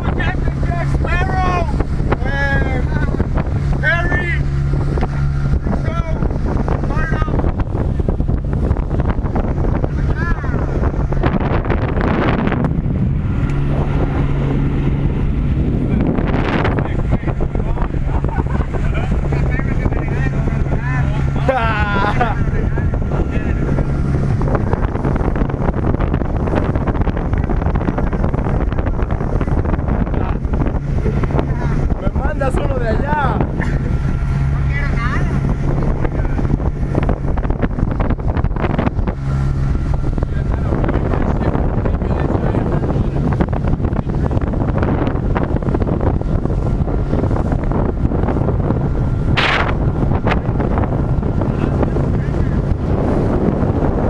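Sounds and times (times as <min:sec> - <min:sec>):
small boat motor drone: 0:00.0 - 0:54.0
wind buffeting microphone: 0:00.0 - 0:54.0.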